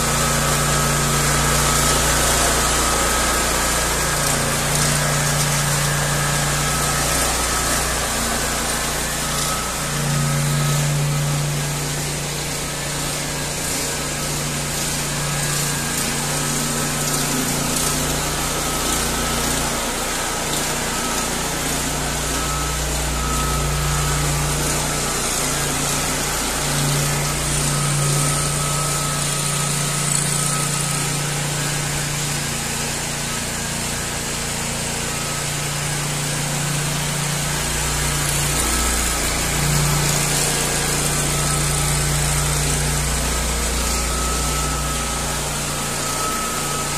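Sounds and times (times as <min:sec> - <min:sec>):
petrol engine running: 0:00.0 - 0:46.9.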